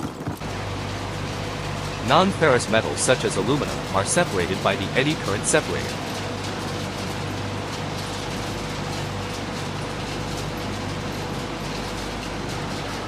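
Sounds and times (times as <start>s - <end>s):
low machinery hum: 0.4s - 13.0s.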